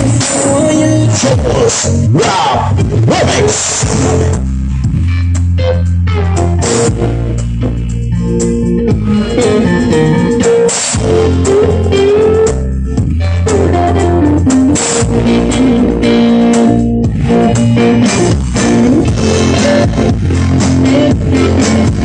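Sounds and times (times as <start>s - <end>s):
instrumental remix music: 0.0s - 22.0s.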